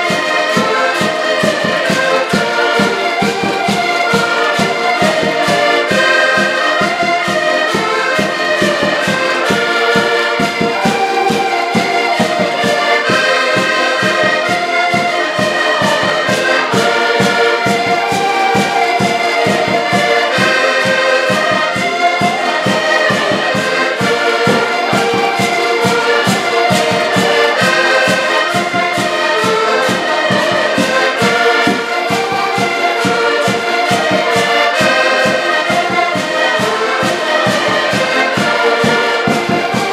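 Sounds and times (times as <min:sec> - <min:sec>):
accordions playing together: 0:00.0 - 0:39.9.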